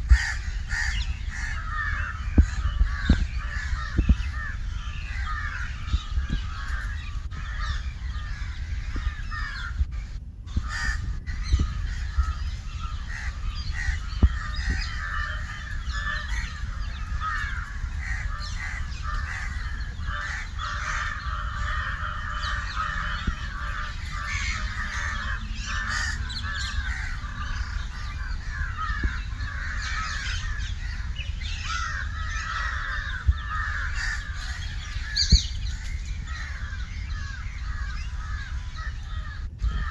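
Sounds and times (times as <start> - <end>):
birds chattering: 0.0 - 39.9
crows cawing: 0.0 - 39.9.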